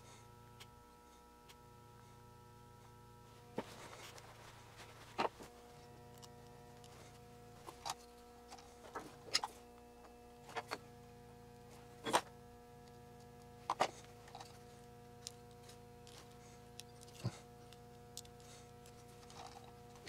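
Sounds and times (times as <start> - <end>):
steady faint hum: 0.0 - 20.0.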